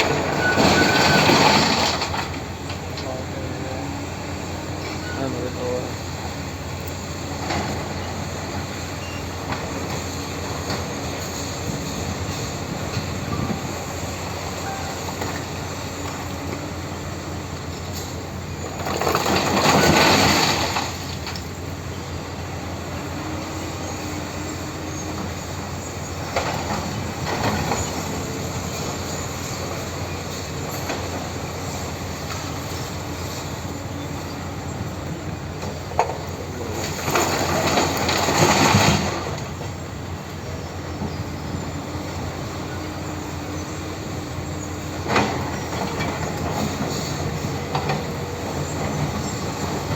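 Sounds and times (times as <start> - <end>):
heavy tractor working rock: 0.0 - 49.9.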